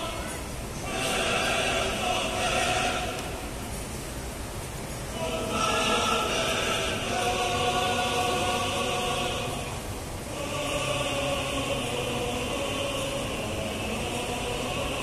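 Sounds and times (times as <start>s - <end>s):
choir-like held chords: 0.0s - 3.8s, 5.0s - 15.0s.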